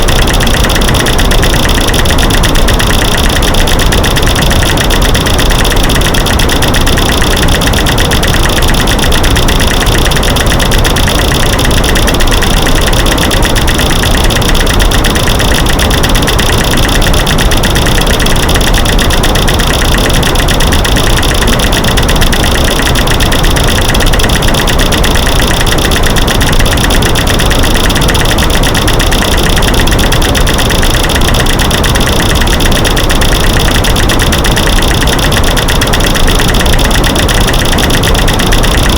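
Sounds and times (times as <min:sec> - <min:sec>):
dense clicking and snapping: 0:00.0 - 0:38.9.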